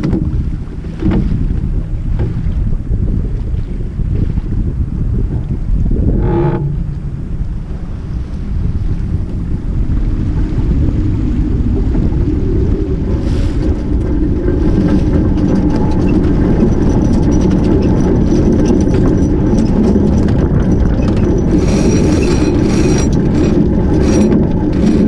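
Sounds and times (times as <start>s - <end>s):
water rushing along hull: 0.0s - 25.0s
wind buffeting microphone: 0.0s - 25.0s.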